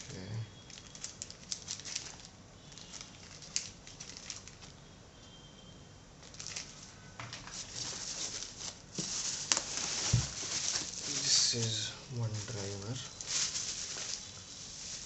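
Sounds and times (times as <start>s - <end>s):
packaging rustling: 0.0s - 4.8s, 6.2s - 15.0s.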